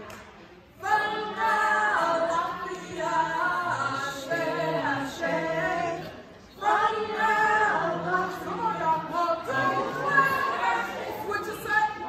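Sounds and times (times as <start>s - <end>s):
group singing a chant: 0.8s - 12.0s.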